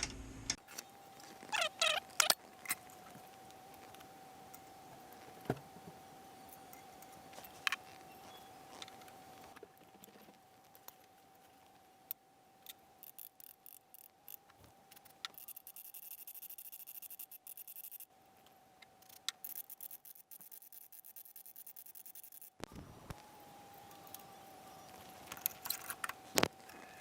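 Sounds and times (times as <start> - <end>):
faint steady whine: 0.0 - 27.0.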